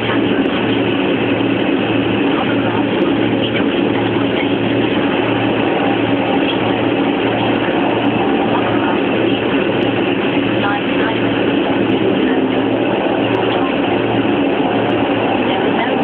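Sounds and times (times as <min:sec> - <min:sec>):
hovercraft engines running: 0:00.0 - 0:16.0
low throb: 0:00.0 - 0:16.0.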